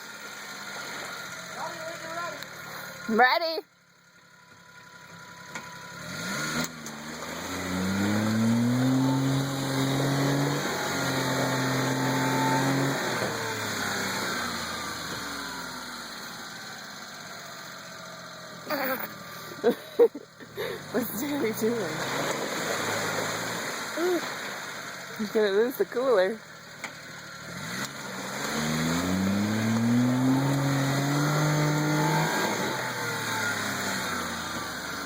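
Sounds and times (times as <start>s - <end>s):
truck engine revving: 5.5s - 35.0s.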